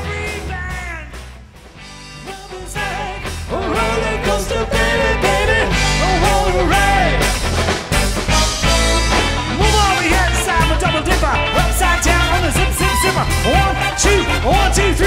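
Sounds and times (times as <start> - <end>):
lead vocal singing: 0.0 - 1.3, 2.1 - 7.5, 9.5 - 15.0
rock band playing live: 0.0 - 15.0.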